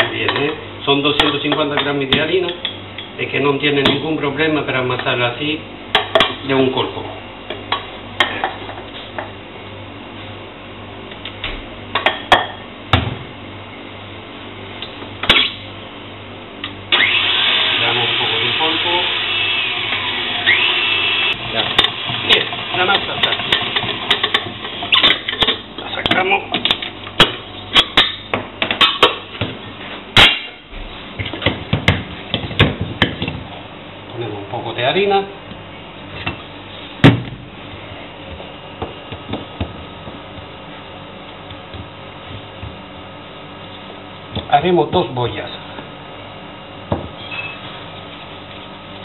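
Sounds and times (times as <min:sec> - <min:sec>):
steady low hum: 0:00.0 - 0:17.0, 0:17.8 - 0:49.0.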